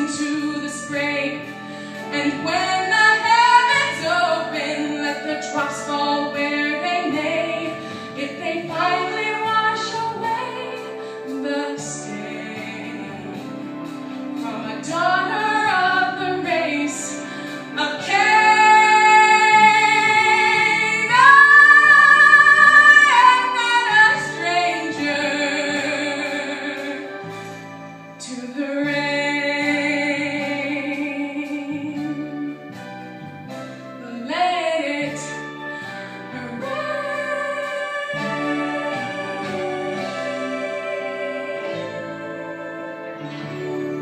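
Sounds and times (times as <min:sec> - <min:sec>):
woman singing a ballad: 0:00.0 - 0:27.6, 0:28.2 - 0:44.0
instrumental accompaniment: 0:00.0 - 0:44.0.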